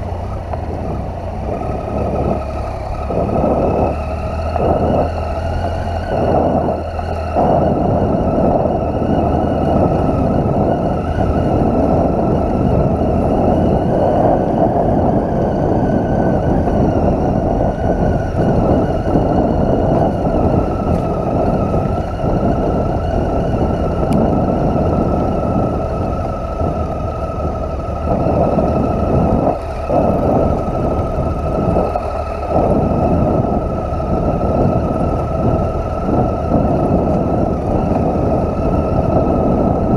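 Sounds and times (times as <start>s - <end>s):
motorcycle engine running: 0.0s - 39.9s
steady whine: 0.0s - 39.9s
wind noise on microphone: 0.0s - 39.9s.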